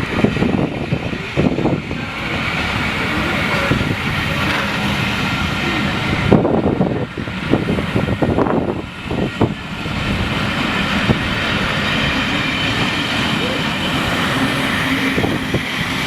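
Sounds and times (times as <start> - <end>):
steam train rumbling: 0.0 - 16.0.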